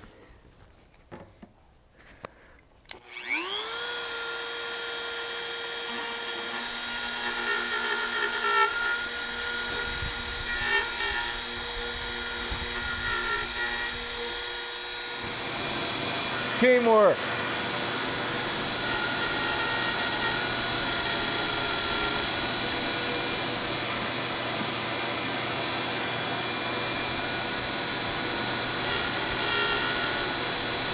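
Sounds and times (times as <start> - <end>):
rotary tool high whine: 2.9 - 30.9.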